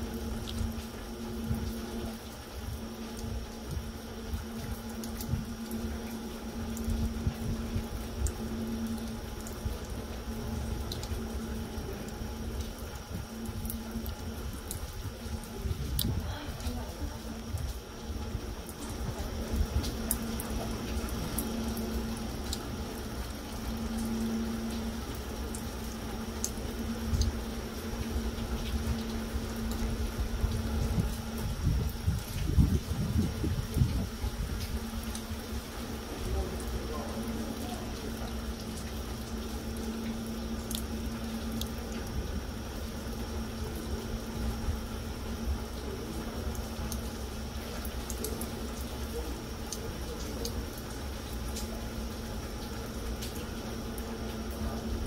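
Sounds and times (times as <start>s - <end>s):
faint low hum: 0.0s - 55.0s
light rain on pavement and leaves: 0.0s - 55.0s
small drips: 0.0s - 55.0s.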